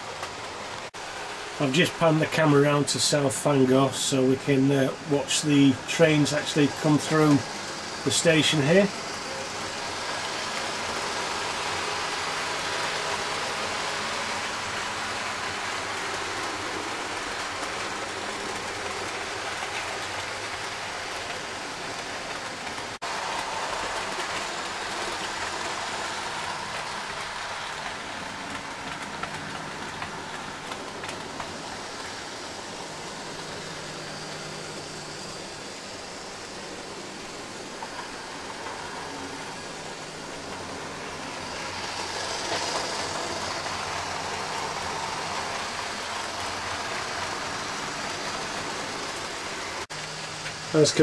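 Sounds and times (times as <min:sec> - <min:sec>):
model train motor whirring: 0:04.8 - 0:51.0.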